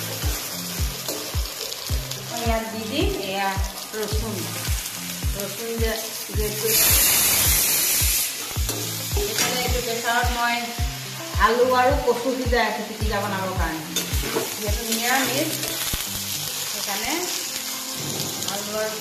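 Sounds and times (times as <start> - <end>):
background music with drum beat: 0.0 - 16.1
loud sizzling hiss: 0.0 - 19.0
vegetables frying in oil: 0.0 - 19.0.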